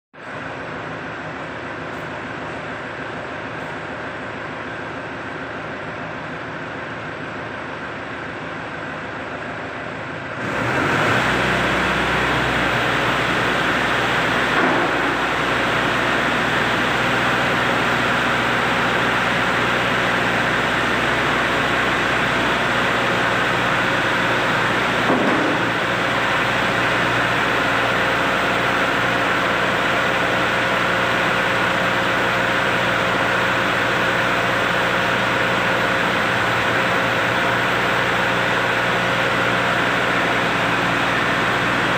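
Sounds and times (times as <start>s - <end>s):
lifting machine humming: 0.2s - 41.9s.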